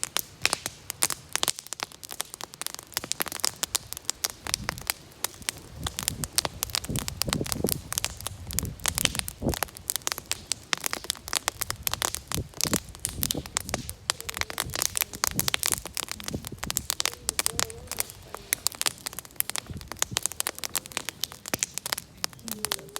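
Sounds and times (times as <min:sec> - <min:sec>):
fire crackling: 0:00.0 - 0:22.9.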